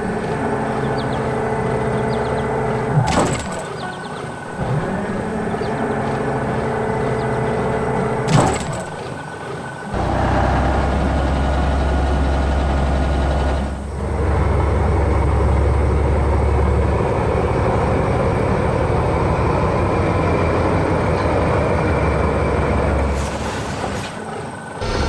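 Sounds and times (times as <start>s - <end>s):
heavy machinery running: 0.0s - 25.0s.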